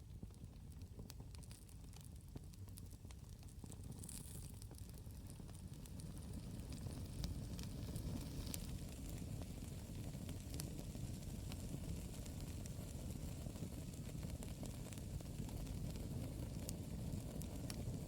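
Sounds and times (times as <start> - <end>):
low fire rumble: 0.0 - 18.0
campfire wood crackling: 0.3 - 18.0.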